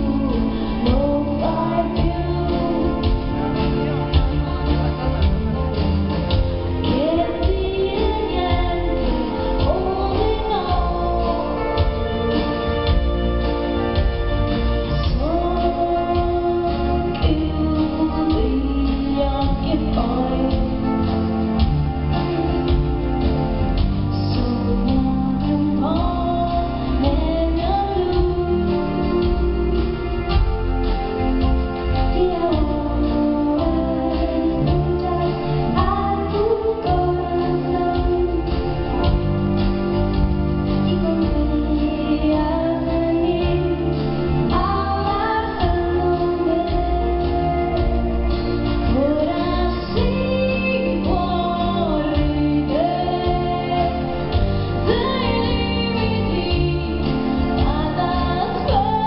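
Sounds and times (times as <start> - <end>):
women singing a duet: 0.0 - 5.0, 6.8 - 13.7, 15.0 - 21.4, 24.1 - 30.0, 32.0 - 39.0, 40.9 - 59.0
band playing pop ballad: 0.0 - 59.0.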